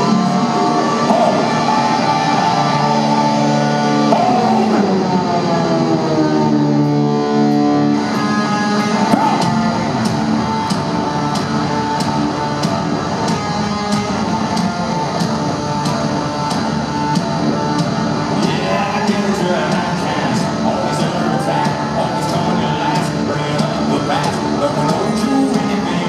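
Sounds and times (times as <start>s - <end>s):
bass guitar: 0.0s - 26.0s
distorted electric guitar: 0.0s - 26.0s.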